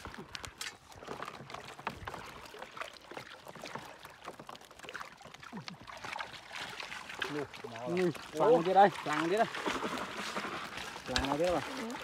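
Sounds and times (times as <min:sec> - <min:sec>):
shallow water splashing: 0:00.0 - 0:12.0
small splashes and clicks: 0:00.0 - 0:12.0.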